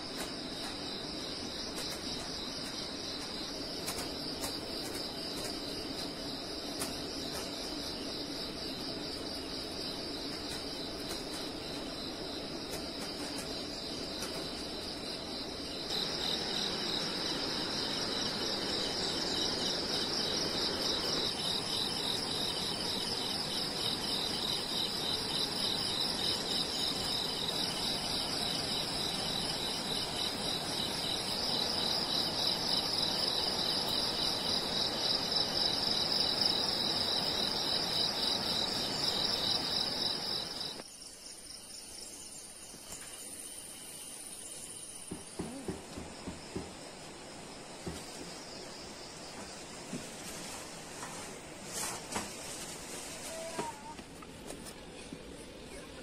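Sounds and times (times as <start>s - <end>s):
insect chorus trilling: 0.0s - 51.0s.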